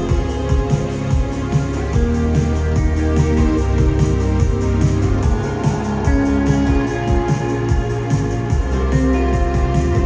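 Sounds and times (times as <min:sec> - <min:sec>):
bass: 0:00.0 - 0:10.0
keyboard chords: 0:00.0 - 0:10.0
steady drum beat: 0:00.0 - 0:10.0.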